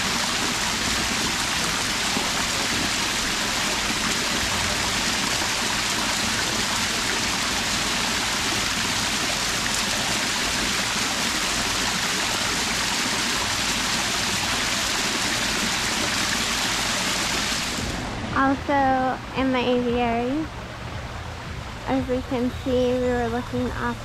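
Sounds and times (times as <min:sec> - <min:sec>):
rush of running water: 0:00.0 - 0:24.0.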